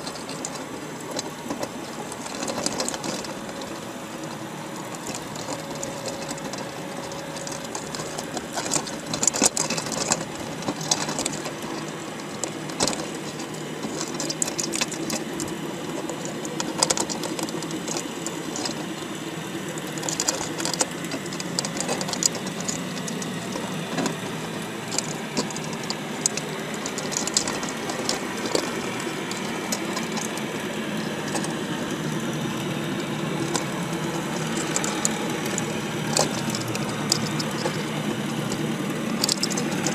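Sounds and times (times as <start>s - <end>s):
crab shells clicking on wire: 0.0s - 39.9s
low mechanical hum: 0.0s - 39.9s.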